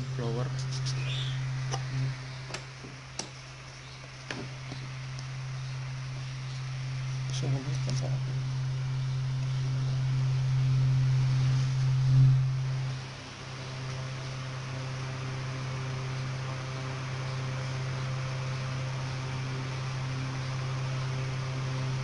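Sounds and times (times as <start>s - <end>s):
hot-air blower hum and hiss: 0.0s - 22.0s.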